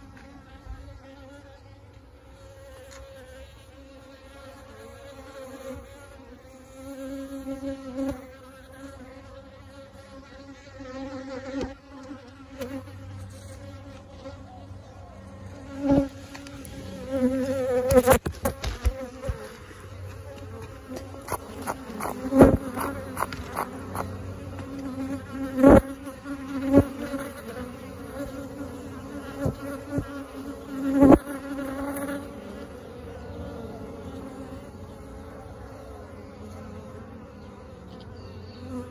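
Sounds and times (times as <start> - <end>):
bee swarm buzzing: 0.0 - 38.9
bee zipping past: 2.3 - 14.5, 15.2 - 38.9.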